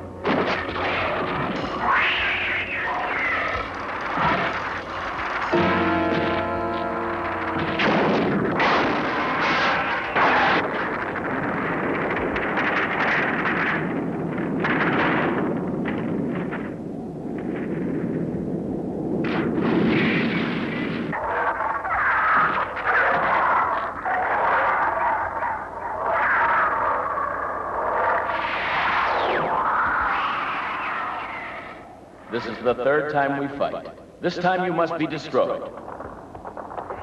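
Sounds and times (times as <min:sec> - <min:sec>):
heavy rumble: 0:00.0 - 0:32.4, 0:35.7 - 0:37.0
explosions: 0:00.0 - 0:32.7, 0:35.3 - 0:37.0.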